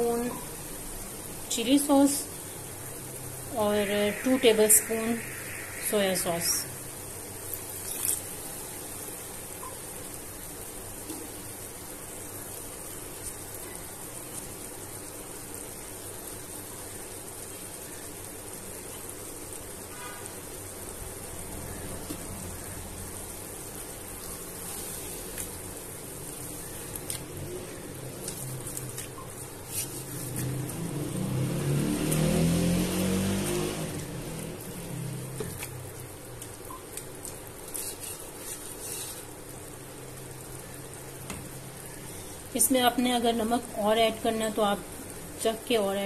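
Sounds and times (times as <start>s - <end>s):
pot sizzling and bubbling: 0.0s - 46.0s.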